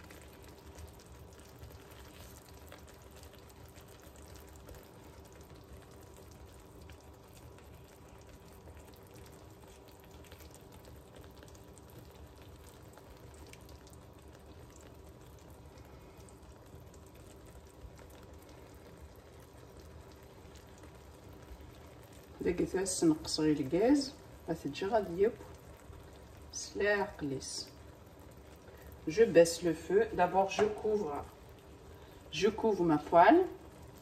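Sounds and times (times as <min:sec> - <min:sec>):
faint sizzling in a pan: 0:00.0 - 0:34.0.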